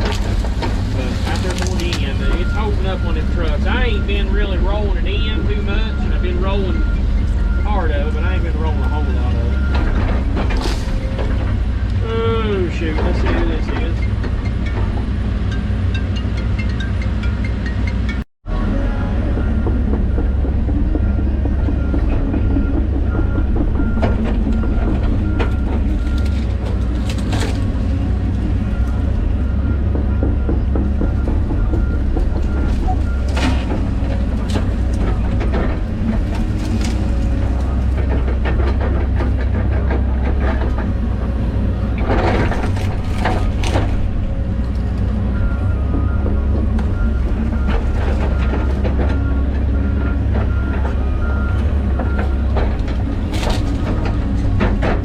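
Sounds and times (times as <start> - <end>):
machine clanks and knocks: 0.0 - 12.0, 12.6 - 18.2, 19.3 - 55.0
excavator engine droning: 0.0 - 55.0.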